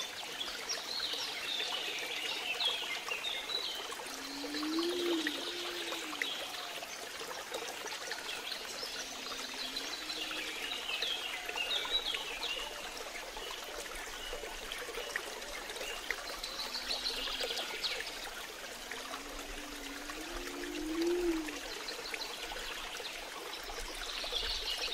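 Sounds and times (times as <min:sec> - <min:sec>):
water trickling: 0:00.0 - 0:24.9.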